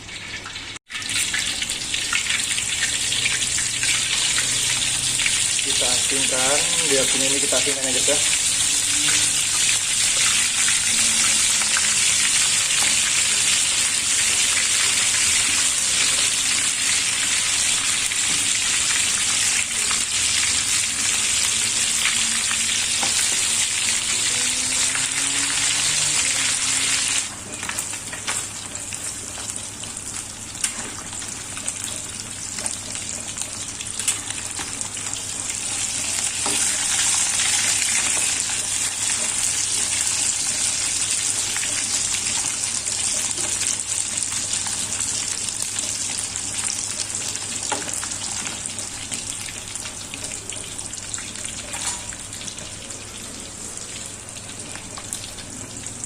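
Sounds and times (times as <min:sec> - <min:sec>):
chicken sizzling in a pan: 0:00.0 - 0:56.0.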